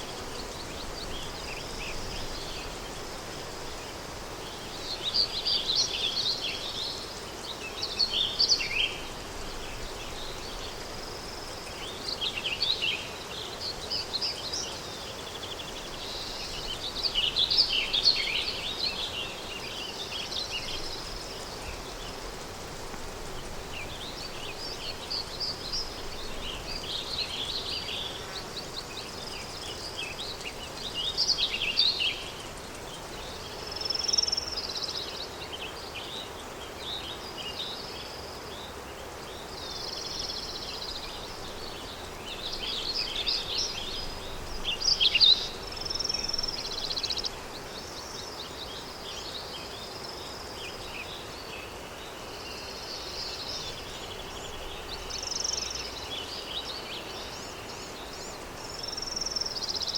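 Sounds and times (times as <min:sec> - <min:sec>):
soft wind-like hiss: 0:00.0 - 0:59.9
songbirds chirping: 0:00.0 - 0:59.9.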